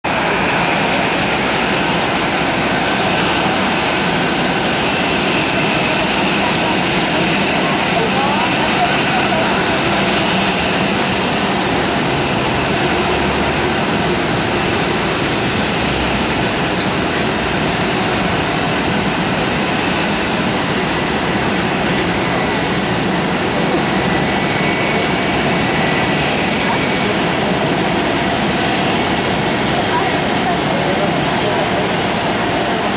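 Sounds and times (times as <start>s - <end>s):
jet engines running: 0.0s - 32.9s.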